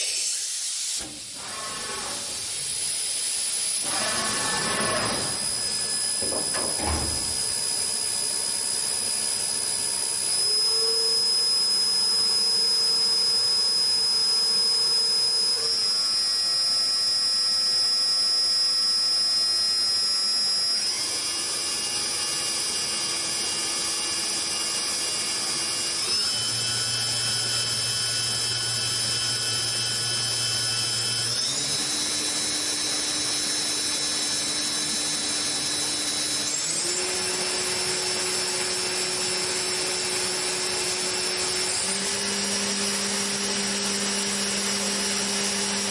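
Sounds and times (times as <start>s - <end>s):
machine spindle whine: 0.0s - 45.9s.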